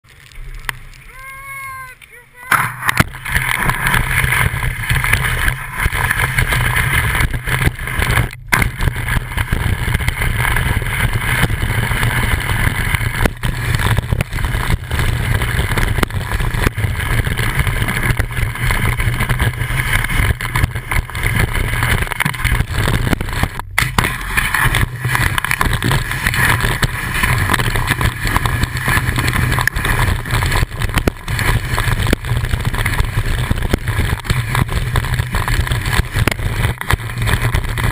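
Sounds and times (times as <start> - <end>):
snowboard sliding over snow: 1.0 - 37.9.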